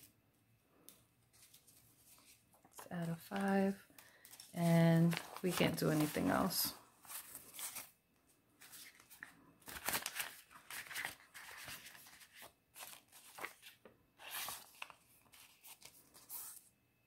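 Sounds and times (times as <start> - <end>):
paper banknotes rustling: 1.3 - 8.0, 8.6 - 16.7
plastic pouches crinkling: 1.4 - 7.9, 8.6 - 15.8.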